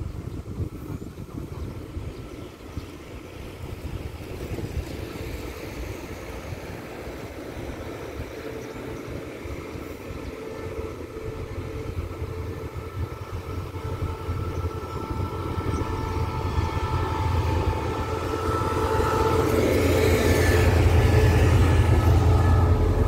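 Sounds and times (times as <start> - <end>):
diesel locomotive rumble: 0.0 - 23.0.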